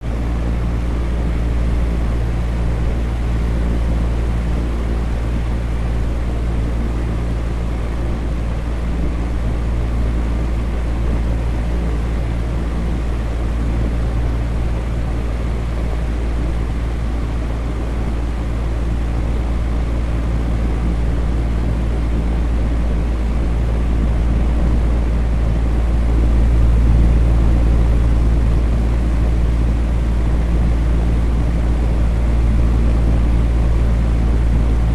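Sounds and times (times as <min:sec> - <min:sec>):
electric fan running: 0:00.0 - 0:34.9.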